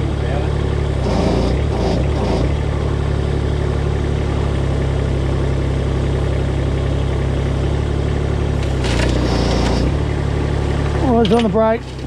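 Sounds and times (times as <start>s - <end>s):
heavy machine engine idling: 0.0s - 12.0s.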